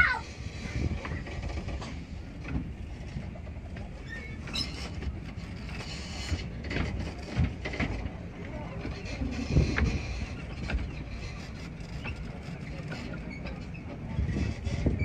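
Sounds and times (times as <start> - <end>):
miniature train rumbling: 0.0 - 15.0.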